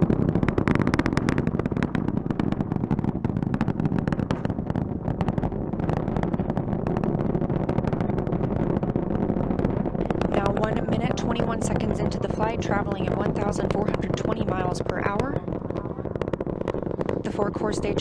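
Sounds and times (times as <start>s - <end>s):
rocket engines roaring with crackle: 0.0s - 18.0s.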